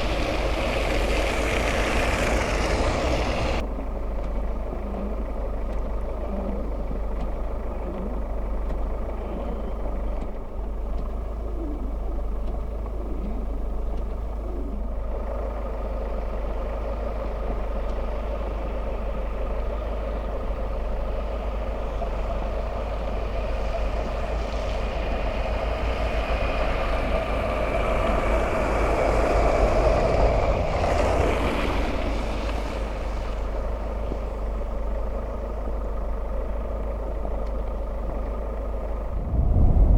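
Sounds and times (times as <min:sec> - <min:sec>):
road noise: 0:00.0 - 0:39.9
vehicle engine: 0:00.0 - 0:39.9.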